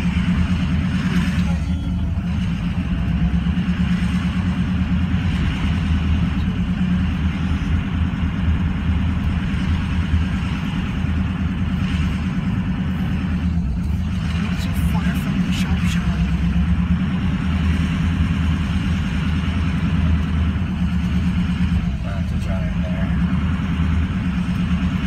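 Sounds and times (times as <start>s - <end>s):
car engine and road noise hum: 0.0s - 25.0s.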